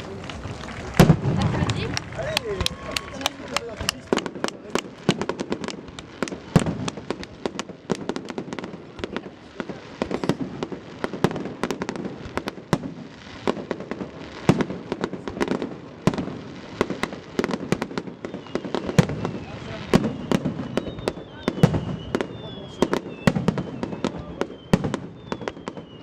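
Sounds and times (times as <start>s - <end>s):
fireworks bursts and crackling: 0.0s - 26.0s
loud firework booms: 0.8s - 2.8s, 3.8s - 26.0s.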